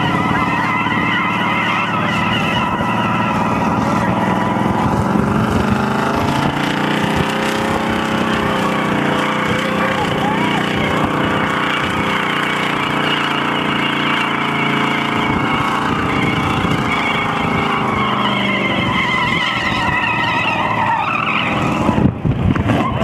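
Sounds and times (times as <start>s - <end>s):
car engine at high revs: 0.0s - 23.0s
tyres squealing: 0.0s - 23.0s.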